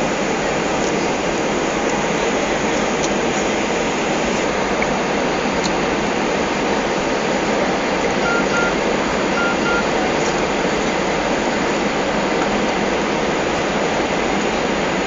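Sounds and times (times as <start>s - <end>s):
airliner cabin jet engine noise: 0.0s - 15.0s.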